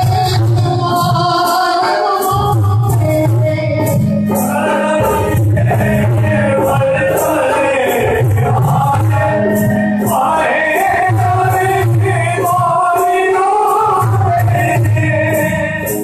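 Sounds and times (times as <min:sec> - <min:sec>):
harmonium: 0:00.0 - 0:16.0
man singing devotional song: 0:00.0 - 0:16.0
rhythmic percussion strokes: 0:00.0 - 0:16.0.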